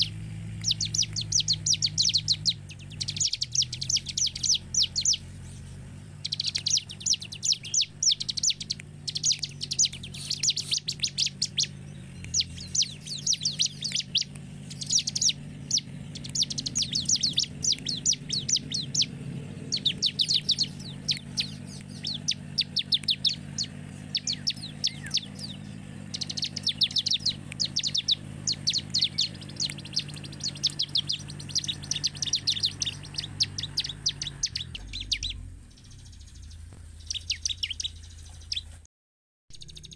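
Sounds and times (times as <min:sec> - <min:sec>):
bird singing sharp high chirps: 0:00.0 - 0:38.8, 0:39.5 - 0:39.9.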